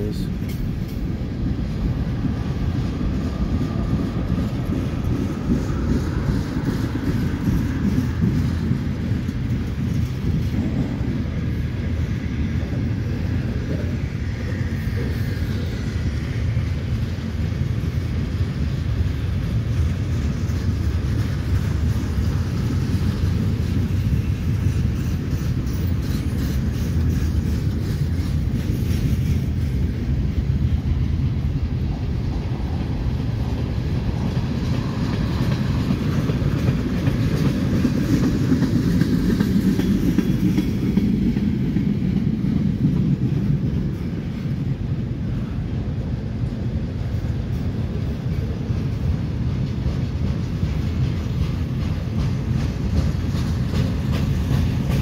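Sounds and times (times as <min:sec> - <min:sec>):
train wheels rumbling on rail: 0:00.0 - 0:55.0
wheels clacking over rail joints: 0:00.2 - 0:45.4, 0:46.6 - 0:55.0.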